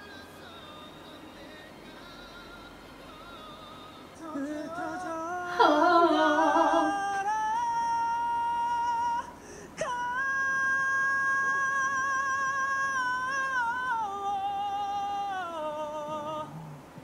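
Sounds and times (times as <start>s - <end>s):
faint singing with piano: 0.0s - 17.0s
man singing unaccompanied: 0.0s - 17.0s.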